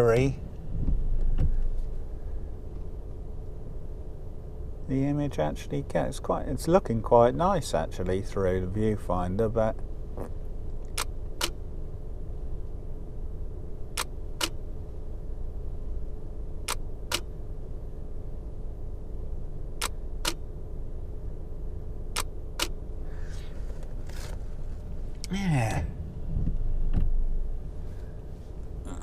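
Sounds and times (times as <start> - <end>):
low rumble in car cabin: 0.0 - 29.0.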